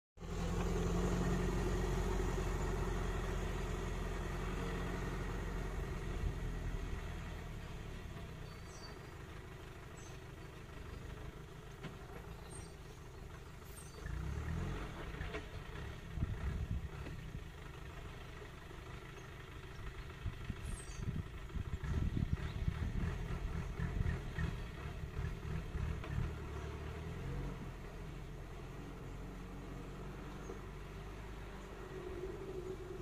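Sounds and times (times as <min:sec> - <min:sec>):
vehicle engine idling: 0:00.2 - 0:33.0.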